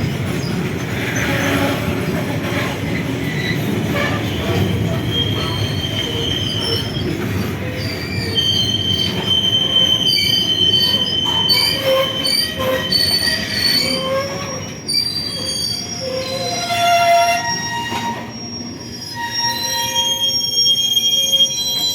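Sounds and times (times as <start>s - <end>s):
train rumbling on bridge: 0.0s - 21.9s
train wheels squealing: 0.0s - 21.9s.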